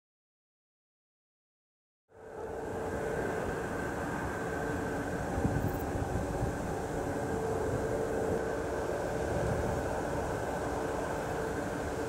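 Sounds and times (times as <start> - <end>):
distant mining machinery drone: 2.1 - 12.0.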